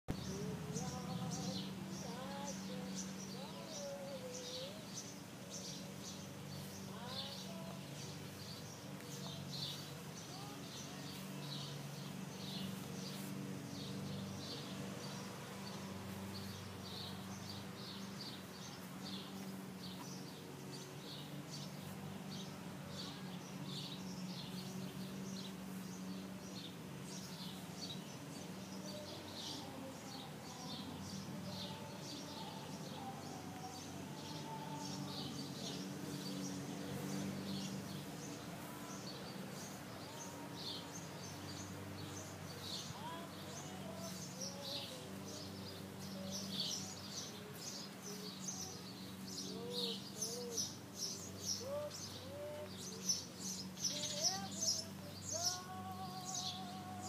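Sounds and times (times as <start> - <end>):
low mechanical hum: 0.1 - 57.0
small birds chirping: 0.1 - 57.0.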